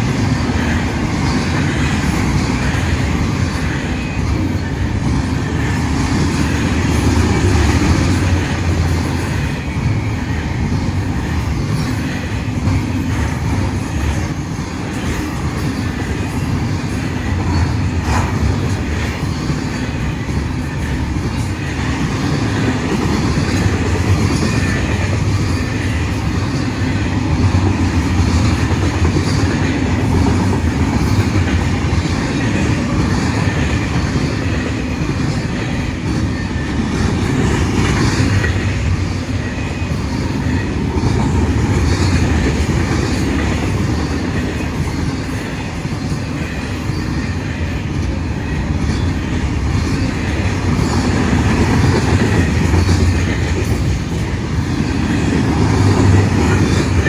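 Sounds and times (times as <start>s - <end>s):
rail cars rumbling: 0.0s - 57.0s
wheels clicking over rail joints: 0.0s - 57.0s.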